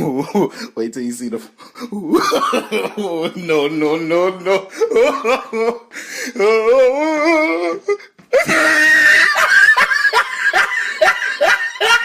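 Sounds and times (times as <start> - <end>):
person laughing hard: 2.0 - 12.0.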